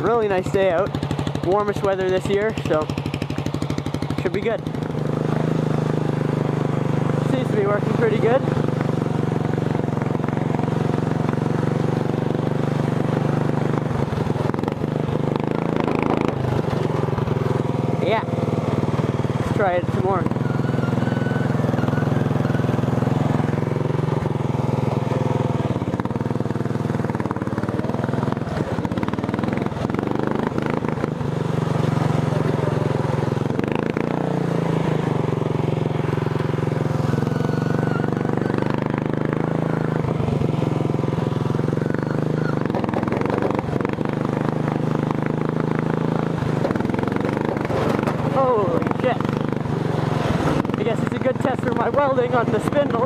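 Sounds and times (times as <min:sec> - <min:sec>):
lawn tractor engine revving: 0:00.0 - 0:53.0.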